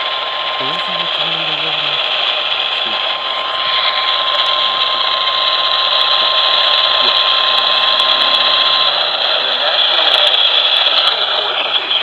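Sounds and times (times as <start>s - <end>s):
radio static hiss: 0.0s - 12.0s
steady alarm tone: 0.0s - 12.0s.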